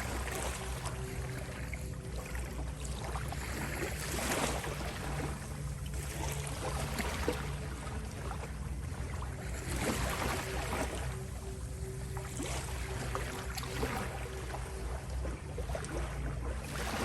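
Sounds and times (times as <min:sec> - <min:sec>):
low humming tone: 0:00.0 - 0:17.0.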